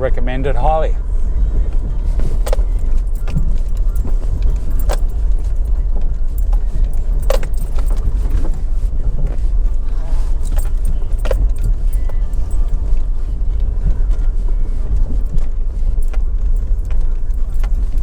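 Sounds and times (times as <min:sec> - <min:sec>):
car road noise rumble: 0:00.0 - 0:18.0.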